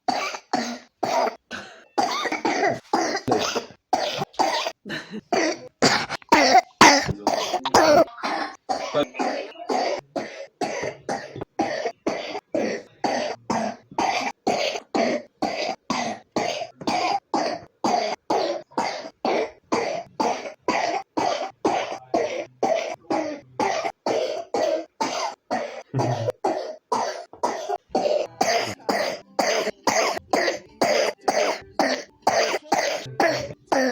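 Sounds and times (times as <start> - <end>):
child coughing: 0.1 - 33.9.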